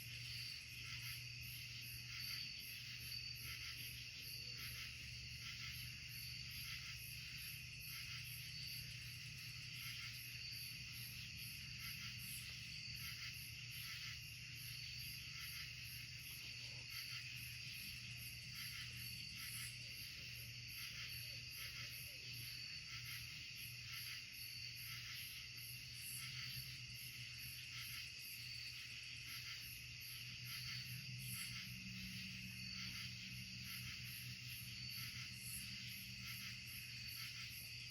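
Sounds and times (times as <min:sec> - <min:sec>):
night insects trilling: 0:00.0 - 0:37.9.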